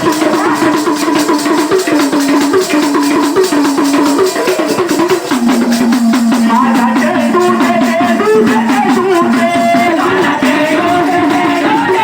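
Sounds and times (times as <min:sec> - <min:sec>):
fast steady percussion: 0:00.0 - 0:12.0.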